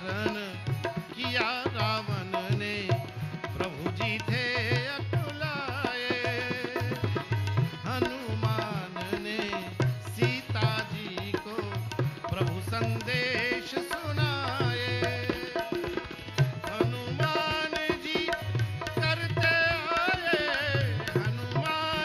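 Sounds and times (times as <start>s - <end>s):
tabla beat: 0.0s - 22.0s.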